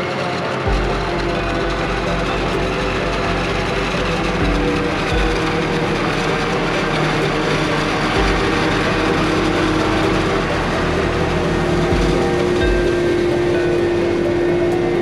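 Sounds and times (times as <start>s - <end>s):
harvest machinery running: 0.0s - 15.0s.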